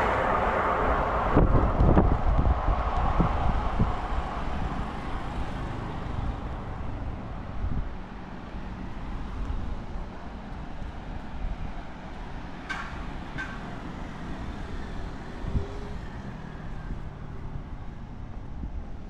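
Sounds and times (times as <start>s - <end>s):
vehicle passing: 0.0s - 10.4s, 12.6s - 18.7s
low engine hum: 0.0s - 19.0s.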